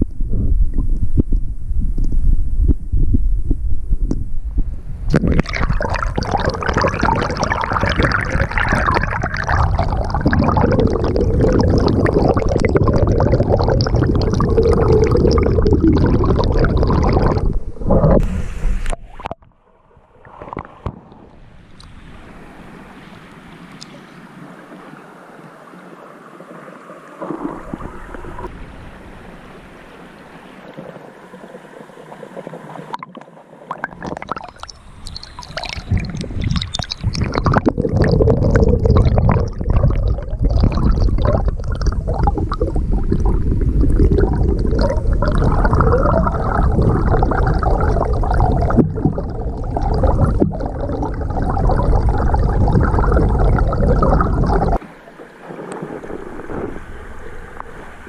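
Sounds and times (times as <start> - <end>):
stream water bubbling and rushing: 5.1 - 19.4, 20.0 - 58.0.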